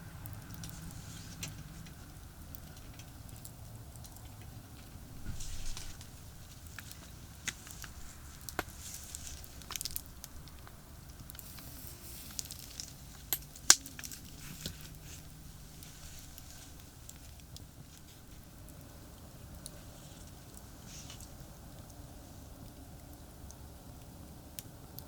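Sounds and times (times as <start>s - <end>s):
campfire crackling and popping: 0.0s - 25.0s
distant highway traffic rumble: 0.0s - 25.0s.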